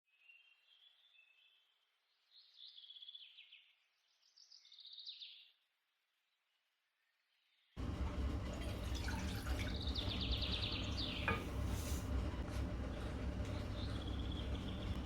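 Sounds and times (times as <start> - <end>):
faint birdsong chirps and trills: 0.1 - 7.8, 9.5 - 11.8, 12.7 - 15.0.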